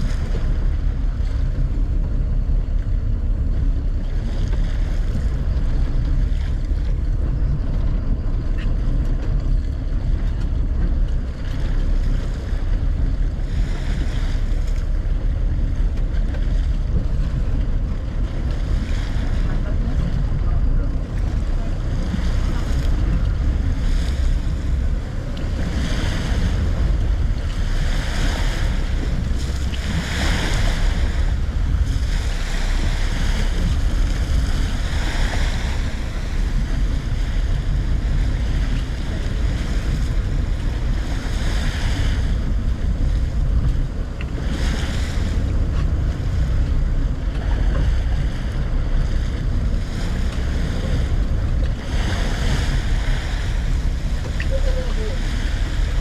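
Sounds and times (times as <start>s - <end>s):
boat engine rumble: 0.0s - 56.0s
water washing off hull: 0.0s - 56.0s
wind on microphone: 0.0s - 56.0s.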